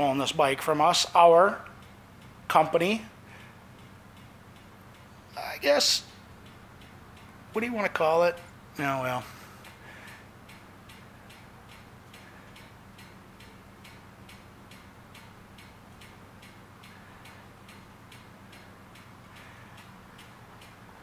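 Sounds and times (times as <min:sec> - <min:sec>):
faint regular ticking: 0:00.0 - 0:21.0
low steady hum: 0:00.0 - 0:21.0.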